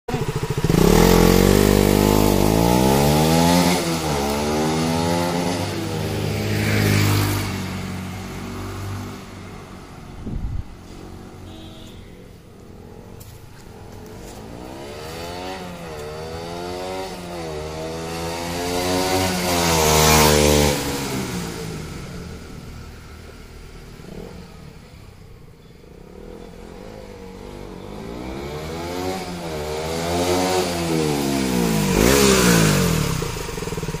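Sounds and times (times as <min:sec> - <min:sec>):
motorcycle engine revving past: 0:00.1 - 0:09.6, 0:12.8 - 0:22.5, 0:26.0 - 0:34.0.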